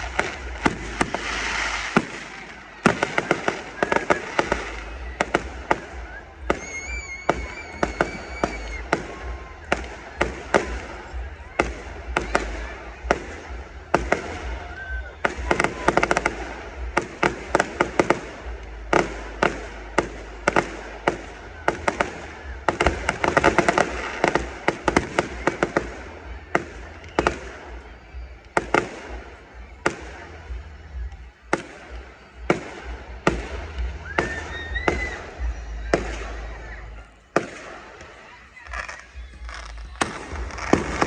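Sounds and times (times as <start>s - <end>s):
fireworks bangs and crackles: 0.0s - 41.0s.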